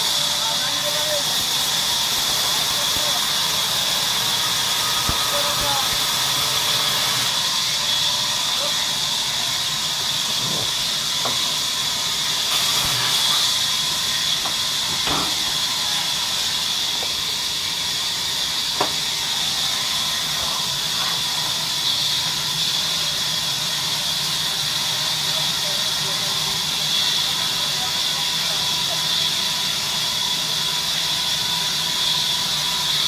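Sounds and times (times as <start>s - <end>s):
band saw running: 0.0s - 33.0s.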